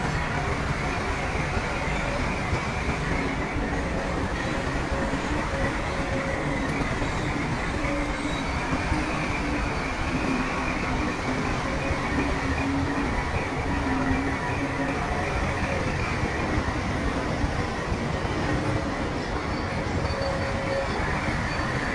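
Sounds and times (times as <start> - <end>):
steel tracks clattering: 0.0 - 21.9.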